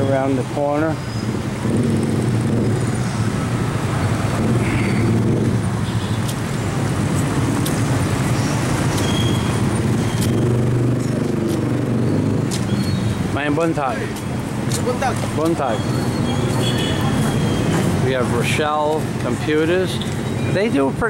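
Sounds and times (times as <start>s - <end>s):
traffic engines rumbling: 0.0s - 21.0s.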